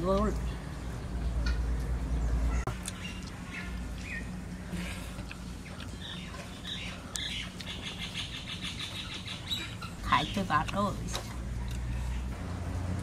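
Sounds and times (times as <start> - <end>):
birds chirping: 0.0 - 12.4
low steady hum: 0.0 - 13.0.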